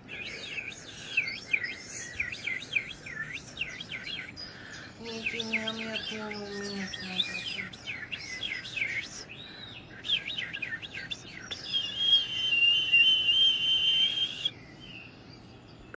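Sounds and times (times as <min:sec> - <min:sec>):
high bird trill: 0:00.0 - 0:15.8
songbird chirps: 0:00.0 - 0:16.0.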